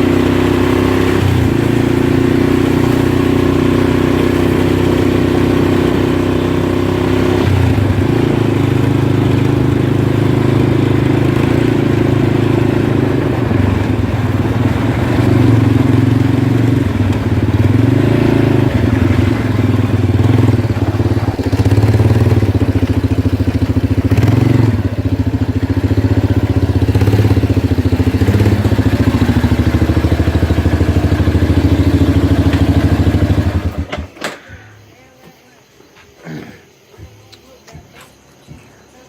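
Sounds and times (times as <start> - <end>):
small engine idling: 0.0 - 35.0.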